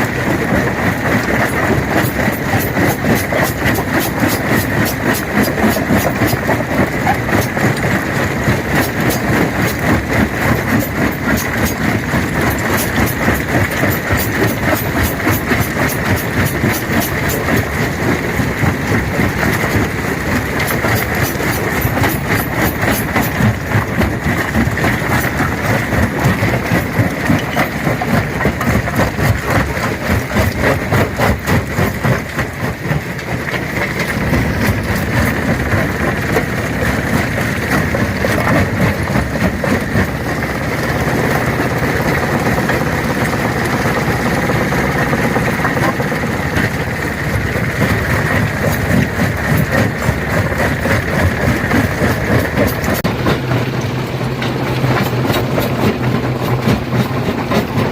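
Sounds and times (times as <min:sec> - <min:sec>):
low machine rumble: 0:00.0 - 0:57.9
stone crusher clattering rocks: 0:00.0 - 0:57.9.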